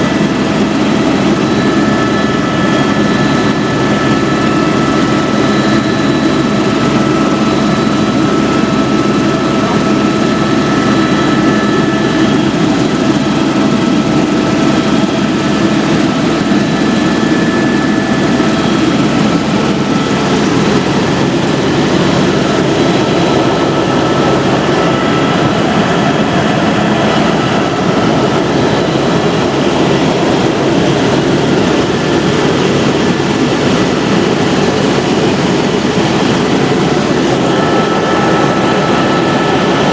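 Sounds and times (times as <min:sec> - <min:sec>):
helicopter rotor and engine: 0:00.0 - 0:39.9
turbine whine: 0:00.0 - 0:39.9.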